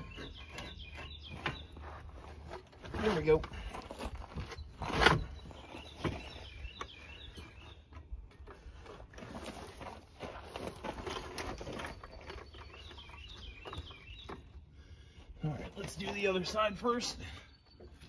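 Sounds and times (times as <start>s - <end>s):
small birds chirping: 0.0s - 8.8s, 10.7s - 18.0s.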